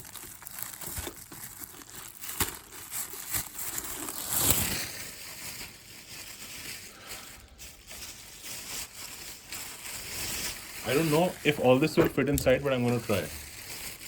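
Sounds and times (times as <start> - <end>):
bag rustling: 0.0 - 14.0.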